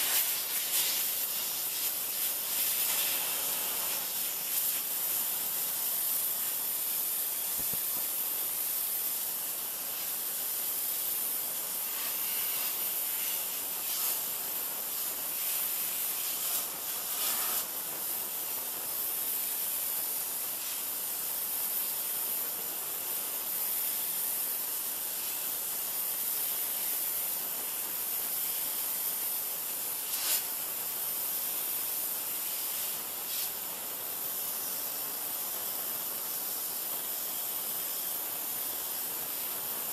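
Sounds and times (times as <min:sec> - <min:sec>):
pressure washer water jet hissing: 0:00.0 - 0:39.9.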